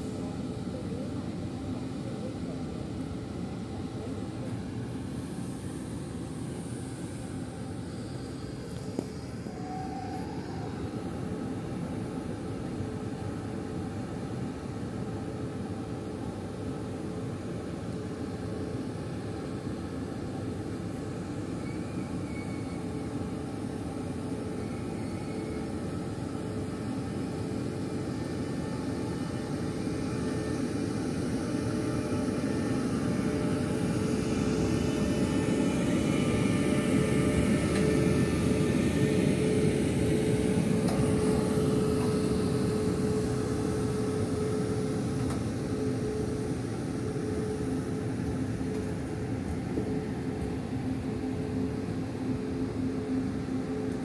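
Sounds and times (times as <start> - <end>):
electric locomotive hum: 0.0 - 54.0.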